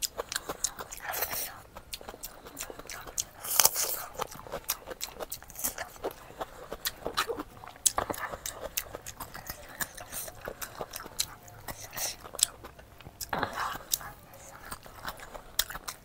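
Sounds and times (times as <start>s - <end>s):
chewing and mouth smacking: 0.0s - 16.0s.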